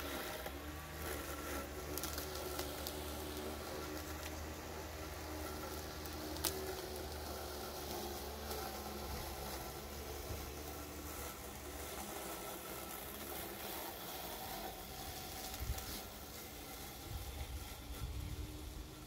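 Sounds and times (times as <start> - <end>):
electric lawn mower motor running: 0.0 - 19.0.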